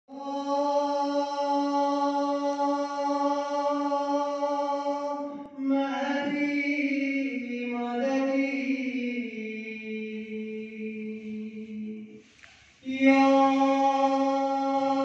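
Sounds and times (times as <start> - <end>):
man chanting: 0.1 - 12.0, 12.8 - 15.0.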